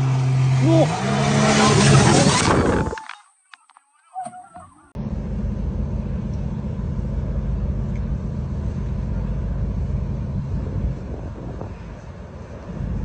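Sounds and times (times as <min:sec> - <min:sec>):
engine droning: 0:00.0 - 0:03.2, 0:04.0 - 0:13.0.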